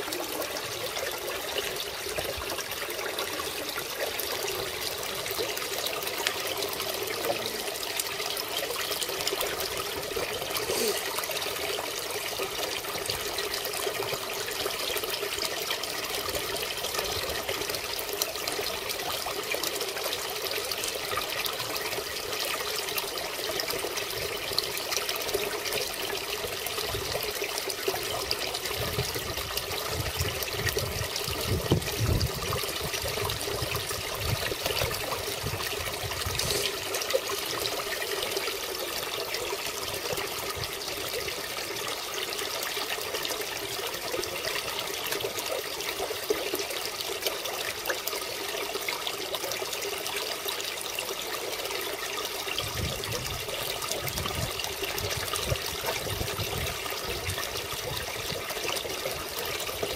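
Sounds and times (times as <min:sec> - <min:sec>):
water splashing into pond: 0:00.0 - 0:59.9.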